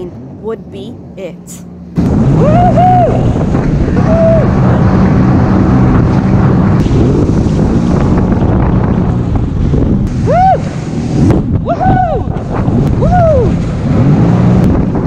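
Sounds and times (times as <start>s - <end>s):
jet ski engine running: 0.0s - 15.0s
water rushing and spray: 1.9s - 15.0s
wind buffeting microphone: 2.0s - 15.0s.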